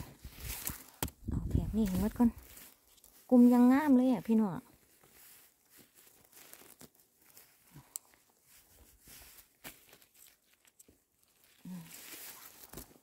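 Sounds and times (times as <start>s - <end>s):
rustles and snaps of picking mushrooms: 0.0s - 13.0s.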